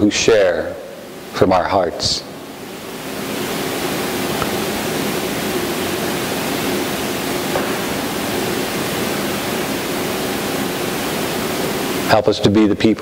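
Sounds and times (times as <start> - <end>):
electronic noise hiss: 0.0 - 13.0.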